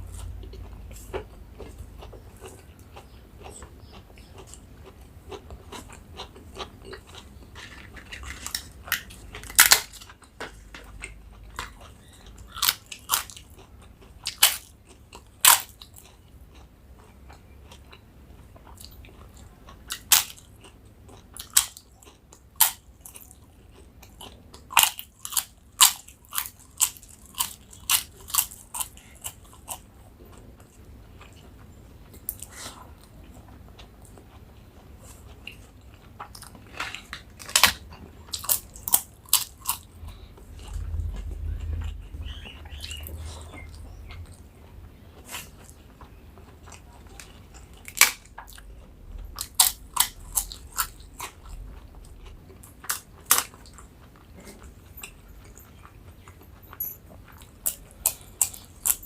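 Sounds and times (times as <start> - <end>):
crunching of crisp food: 0.0 - 59.0
quiet chewing: 0.0 - 59.0.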